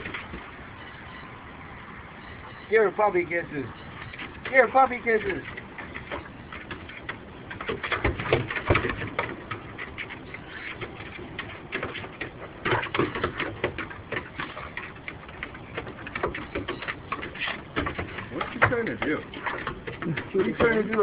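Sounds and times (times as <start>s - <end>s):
animals playing clicks and scuffles: 0.0s - 1.0s, 3.7s - 21.0s.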